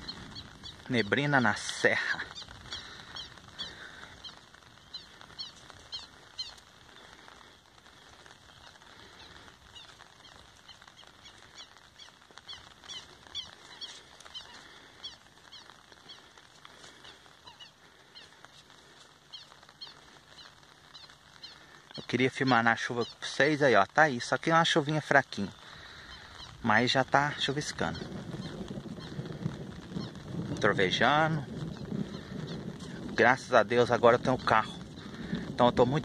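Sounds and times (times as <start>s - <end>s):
light drizzle hiss: 0.0s - 36.0s
small birds chirping: 0.0s - 36.0s.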